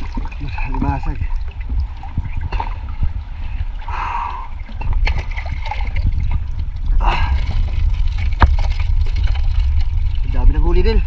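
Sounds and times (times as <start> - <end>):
low rumble: 0.0 - 11.0
water splashing: 0.0 - 11.0.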